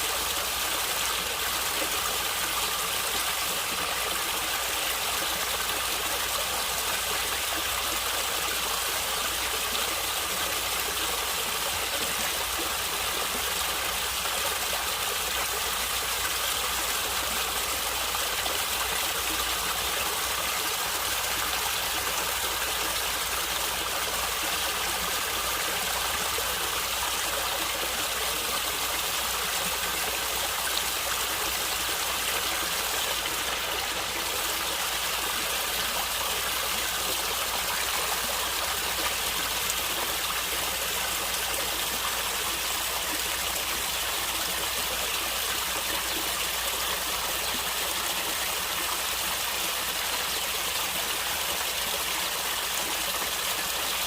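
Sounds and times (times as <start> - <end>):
stream flowing and gurgling: 0.0 - 54.0.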